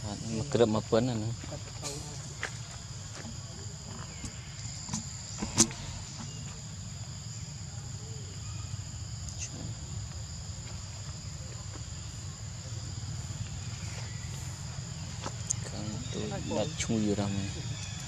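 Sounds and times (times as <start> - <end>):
shrill insect chorus: 0.0 - 18.0.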